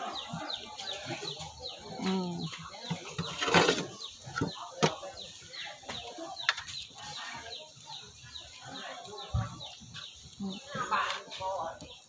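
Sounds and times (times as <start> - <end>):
chickens calling: 0.0 - 12.0.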